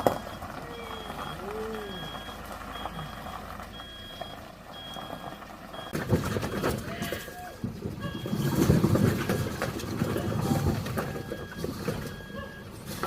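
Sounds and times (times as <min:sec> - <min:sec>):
truck reversing alarm beeping: 0:00.0 - 0:13.0
loud rumbling with knocks: 0:01.9 - 0:13.0.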